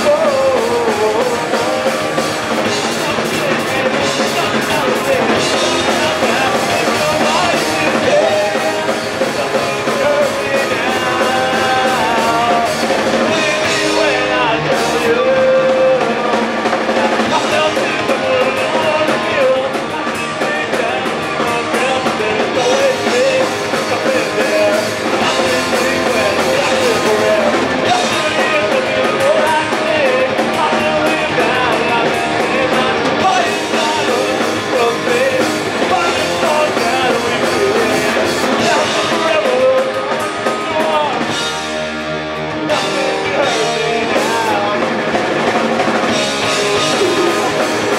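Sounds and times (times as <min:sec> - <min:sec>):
singing: 0:00.0 - 0:41.8, 0:42.6 - 0:45.0, 0:46.1 - 0:47.9
punk rock band playing live: 0:00.0 - 0:47.9.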